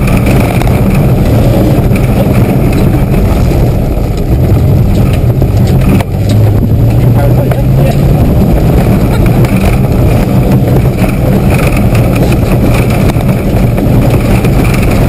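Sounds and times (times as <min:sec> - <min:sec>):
engine running under load: 0:00.0 - 0:15.0
knocks and rattles: 0:00.0 - 0:15.0.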